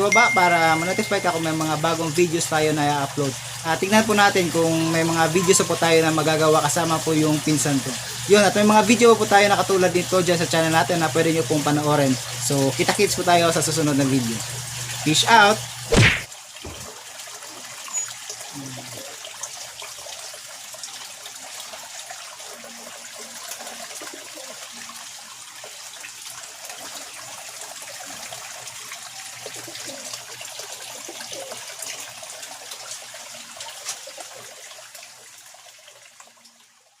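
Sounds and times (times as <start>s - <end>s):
aquarium water bubbling: 0.0s - 36.9s.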